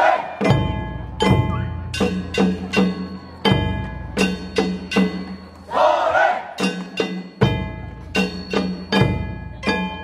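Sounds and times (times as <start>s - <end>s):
drum beats: 0.0s - 10.0s.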